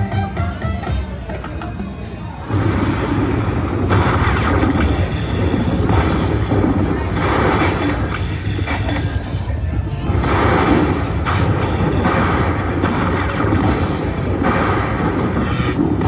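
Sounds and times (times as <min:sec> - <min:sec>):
slot machine music and effects: 0:00.0 - 0:16.0.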